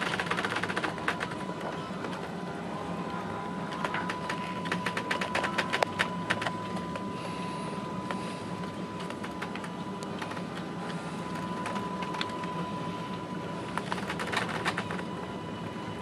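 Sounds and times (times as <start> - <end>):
low drone of ship machinery: 0.0 - 16.0.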